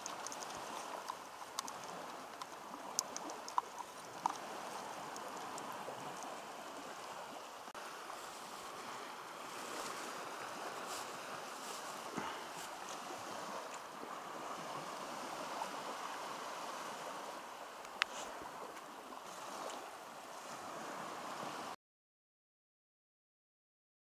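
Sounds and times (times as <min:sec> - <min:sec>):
sea surf rushing: 0:00.0 - 0:21.8
wind: 0:00.0 - 0:21.8.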